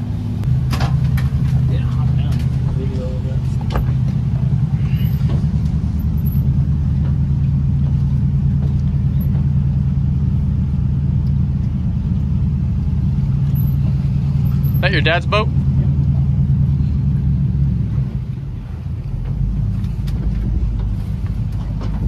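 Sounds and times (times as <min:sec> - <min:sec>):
engine droning steadily: 0:00.0 - 0:22.0.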